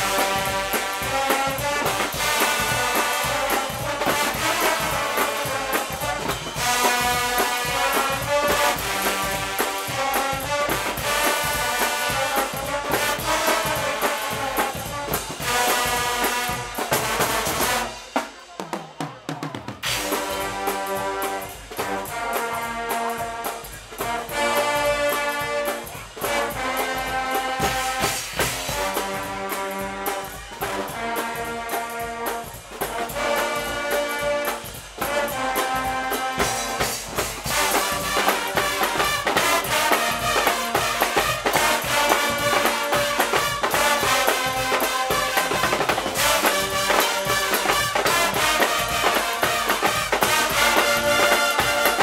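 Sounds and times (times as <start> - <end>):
brass band with drums: 0.0 - 52.0.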